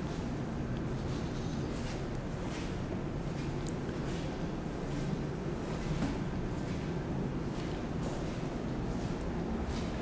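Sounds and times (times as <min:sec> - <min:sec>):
low room rumble: 0:00.0 - 0:10.0
soft footsteps: 0:01.0 - 0:10.0.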